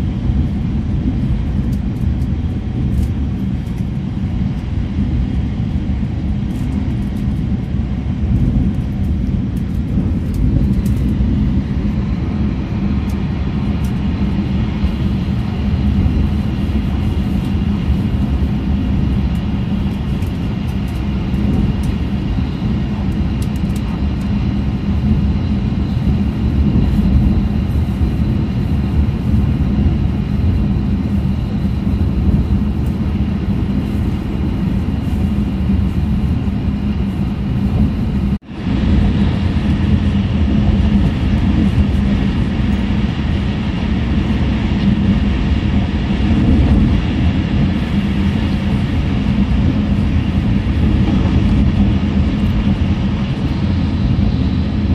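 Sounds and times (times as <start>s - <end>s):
train cabin rumble: 0.0s - 54.9s.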